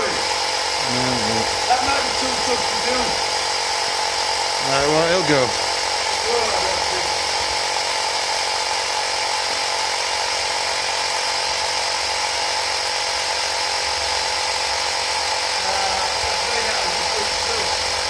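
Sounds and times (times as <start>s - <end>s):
electric air compressor running: 0.0s - 18.0s.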